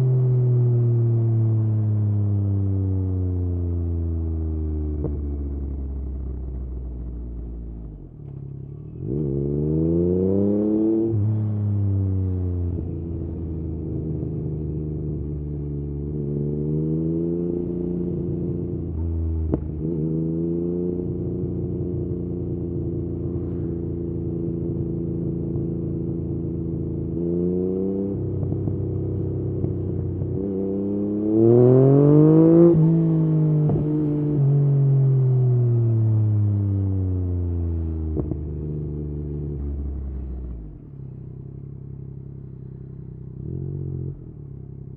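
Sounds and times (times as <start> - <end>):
motorcycle engine revving: 8.3 - 44.9.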